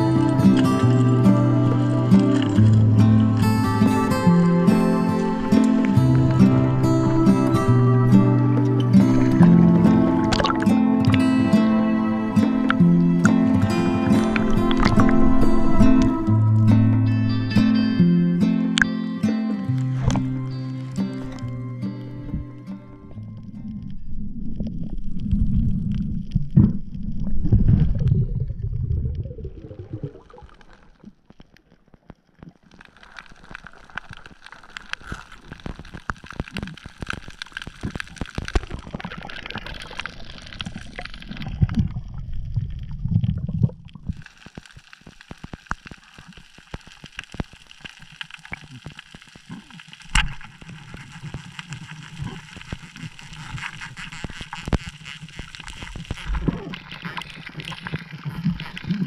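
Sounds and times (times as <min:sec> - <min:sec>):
crackle of fine clicks: 0:00.0 - 0:11.8, 0:12.4 - 0:17.8, 0:18.6 - 0:59.0
water rushing and gurgling underwater: 0:00.0 - 0:59.0.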